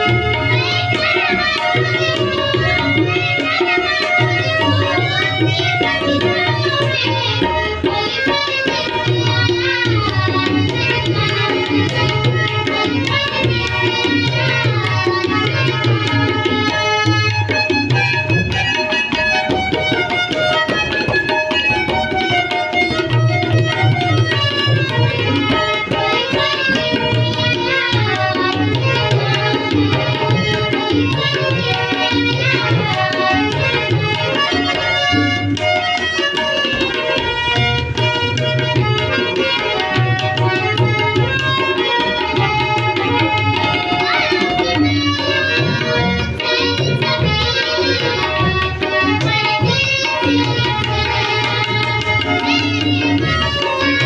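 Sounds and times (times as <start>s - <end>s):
tabla drumming: 0.0s - 54.0s.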